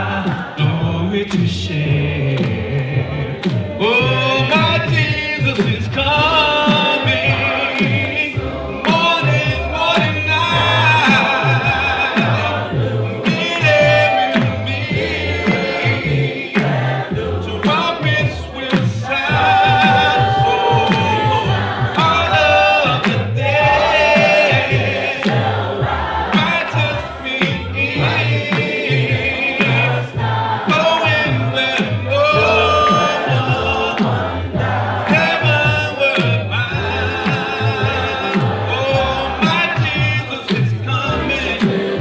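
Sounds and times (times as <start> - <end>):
group of voices singing: 0.0 - 42.0
steady beat and bass: 0.0 - 42.0.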